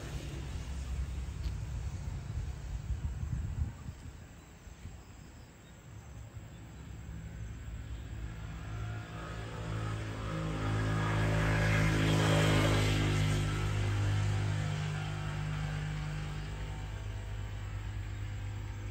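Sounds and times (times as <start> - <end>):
passing engine droning: 0.0 - 3.9, 6.4 - 18.9.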